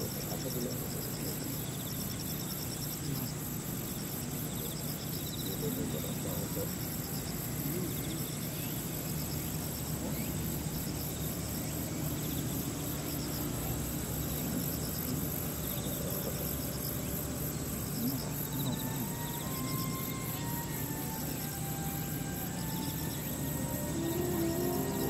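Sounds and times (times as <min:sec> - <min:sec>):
insects chirping: 0:00.0 - 0:25.0
low hum and hiss: 0:00.0 - 0:25.0.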